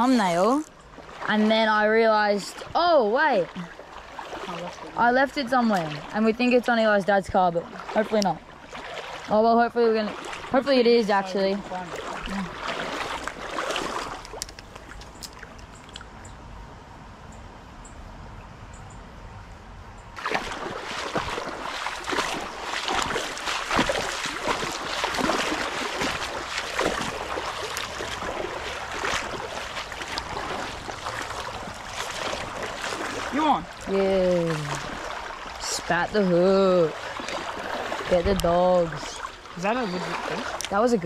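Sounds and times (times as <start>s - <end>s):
water splashing and gurgling: 0.0s - 16.3s, 20.2s - 41.0s
creek water trickling: 0.0s - 16.5s, 20.2s - 41.0s.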